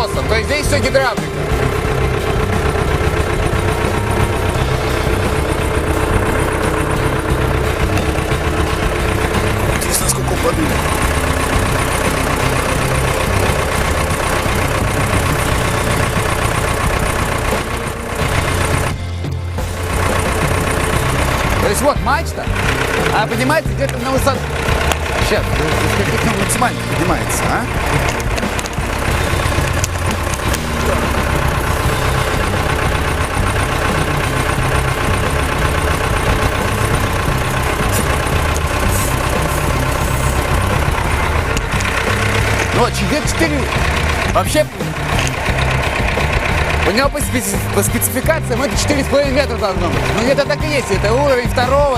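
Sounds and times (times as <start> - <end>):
diesel engine running: 0.0 - 51.9
hydraulic pump whine: 0.0 - 51.9.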